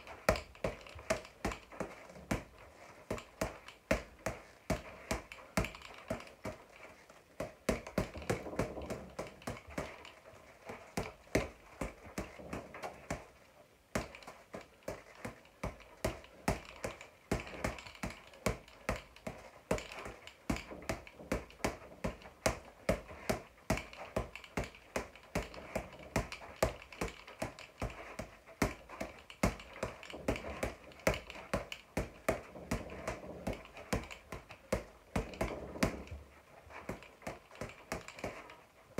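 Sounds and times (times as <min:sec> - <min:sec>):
boxing gloves slapping punch ball: 0:00.0 - 0:06.8, 0:07.4 - 0:38.6.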